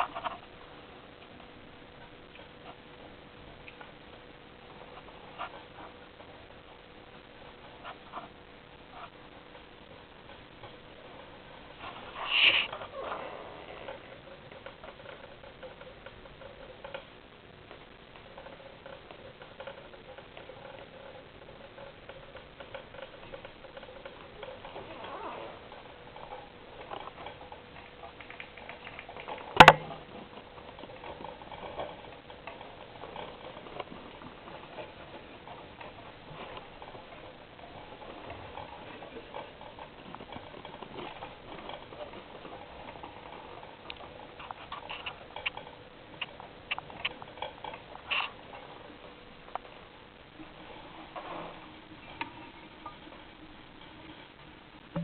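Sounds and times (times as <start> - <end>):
hamsters crunching insects: 0.0 - 54.2.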